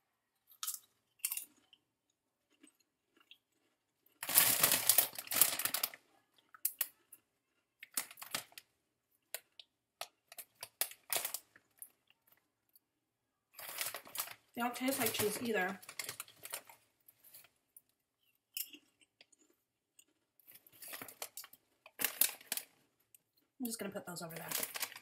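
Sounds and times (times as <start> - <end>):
potato chips crunching: 0.4 - 12.5, 13.5 - 23.6, 24.2 - 25.0.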